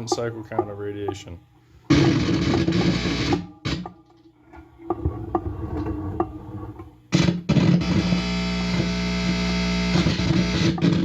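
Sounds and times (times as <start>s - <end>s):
guitar amplifier buzzing and crackling: 0.0s - 11.0s.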